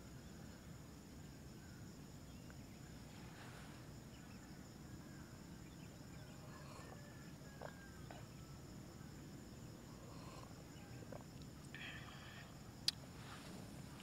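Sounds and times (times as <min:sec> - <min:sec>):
crickets droning: 0:00.0 - 0:14.0.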